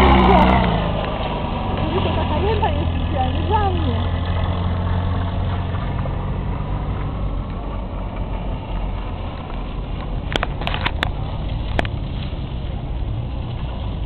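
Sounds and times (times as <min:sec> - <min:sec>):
car engine low rumble: 0:00.0 - 0:14.0.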